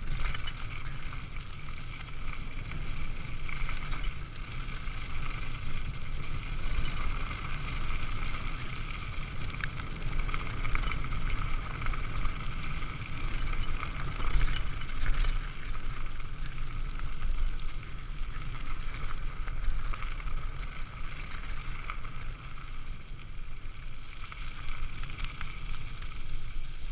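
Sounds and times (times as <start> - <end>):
bike rattling over bumps: 0.0 - 26.9.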